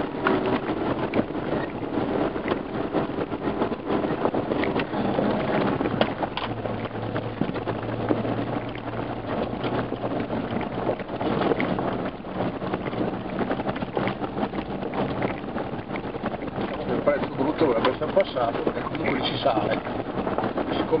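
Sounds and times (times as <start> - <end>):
knocks and rattles from bumps: 0.0 - 20.8
steady low hum: 0.0 - 21.0
vehicle engine running: 0.0 - 21.0.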